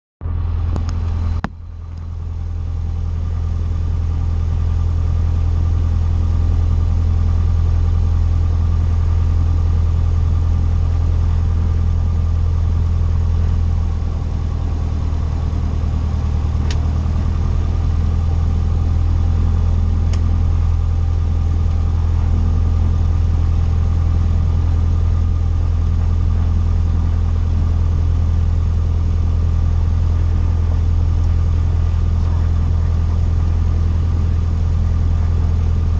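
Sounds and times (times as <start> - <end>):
aircraft engine droning: 0.2 - 35.9.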